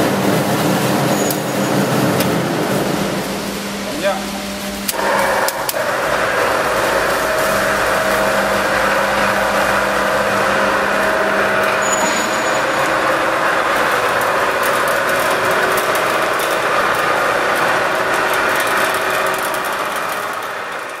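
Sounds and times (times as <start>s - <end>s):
concrete vibrator machine running: 0.0s - 21.0s.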